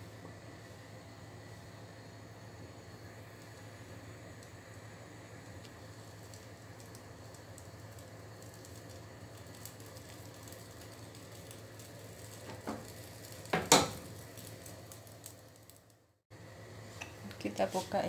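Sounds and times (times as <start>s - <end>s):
batter sizzling in a pan: 0.0s - 18.0s.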